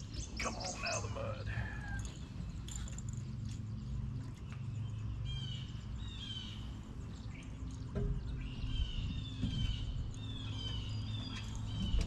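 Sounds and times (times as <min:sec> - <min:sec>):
bird chirping: 0:00.0 - 0:03.0, 0:03.8 - 0:12.0.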